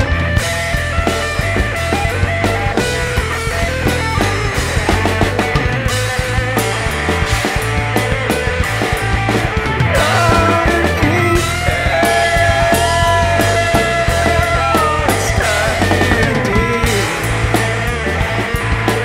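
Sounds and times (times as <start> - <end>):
rock band playing: 0.0 - 19.0
sliding lead guitar notes: 0.0 - 19.0.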